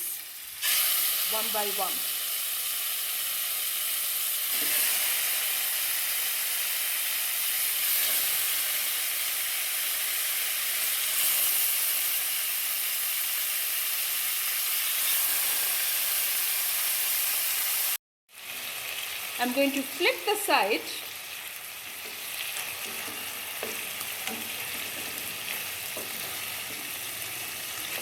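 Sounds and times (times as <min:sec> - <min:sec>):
chicken sizzling in a frying pan: 0:00.0 - 0:28.0.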